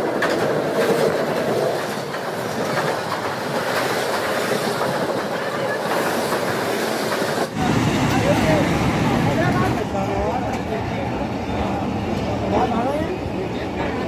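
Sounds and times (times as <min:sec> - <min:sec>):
diesel locomotive passing: 0:00.0 - 0:14.0
train wheels rumbling on track: 0:00.0 - 0:14.0.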